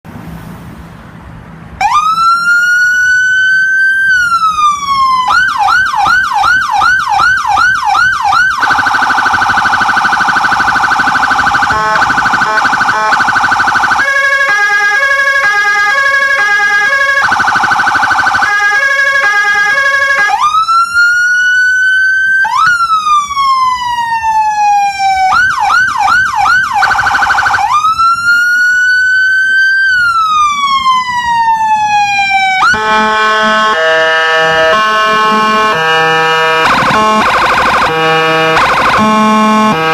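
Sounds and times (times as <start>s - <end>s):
electronic emergency siren: 1.8s - 39.9s.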